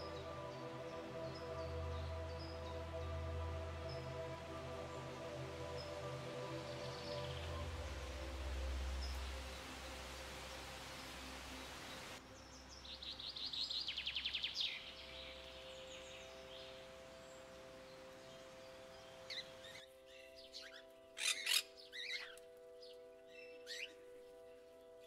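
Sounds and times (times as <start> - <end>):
soft sustained music chord: 0.0 - 25.0.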